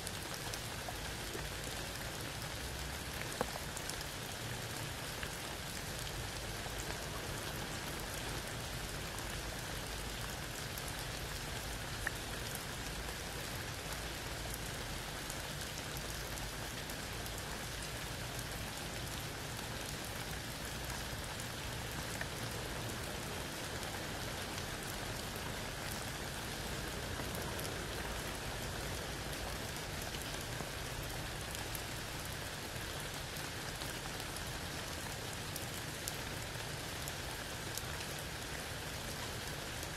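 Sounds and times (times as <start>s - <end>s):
rain falling on wet ground: 0.0s - 39.9s.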